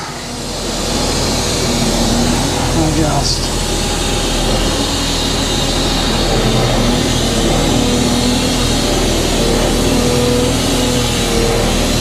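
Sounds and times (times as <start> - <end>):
dumper engine running: 0.0 - 12.0.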